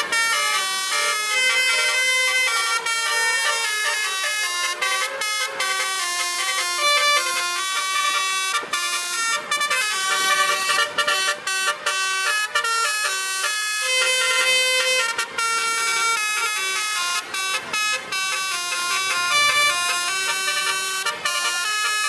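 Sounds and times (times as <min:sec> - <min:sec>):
musical truck horn melody: 0:00.0 - 0:22.0.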